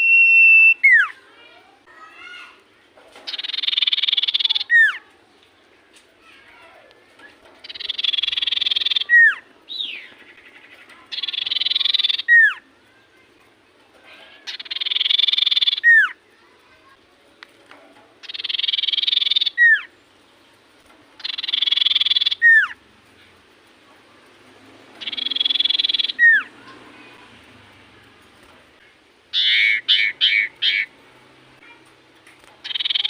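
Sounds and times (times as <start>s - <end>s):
bird singing buzzy trills: 0.0s - 1.2s, 2.0s - 5.8s, 7.2s - 13.3s, 13.9s - 16.8s, 18.2s - 33.0s.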